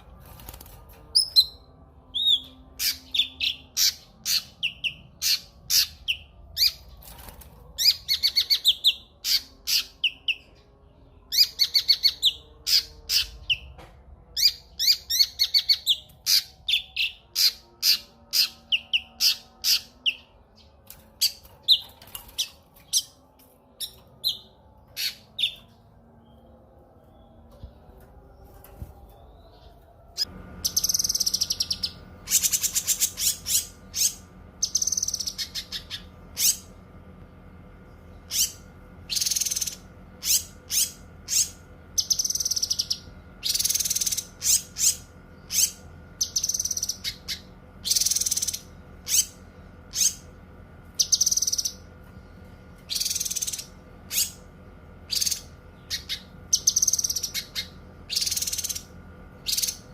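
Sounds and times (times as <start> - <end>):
low electrical hum: 0.0 - 59.9
songbird singing: 1.2 - 36.8, 37.9 - 59.9.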